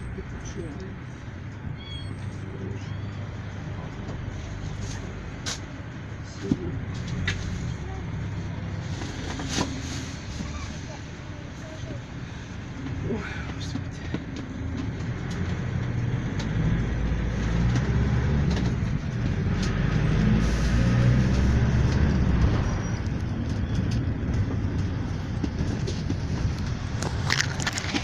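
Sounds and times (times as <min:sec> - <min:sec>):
minibus engine and road rumble: 0:00.0 - 0:28.0.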